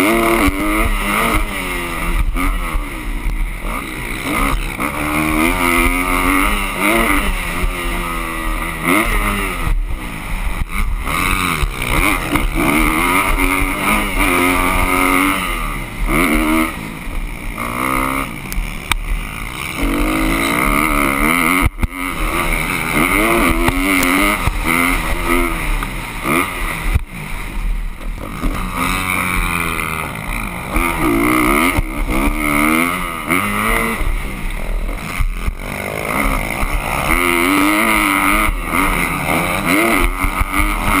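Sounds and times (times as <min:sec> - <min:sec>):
motocross bike engines revving: 0:00.0 - 0:41.0.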